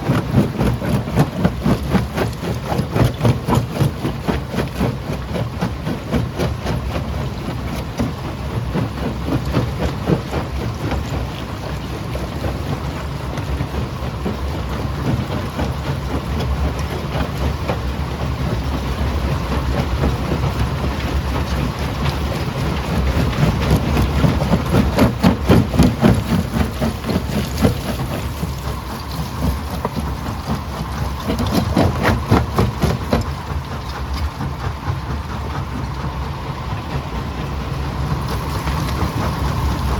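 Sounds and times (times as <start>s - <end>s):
low machine drone: 0.0s - 39.9s.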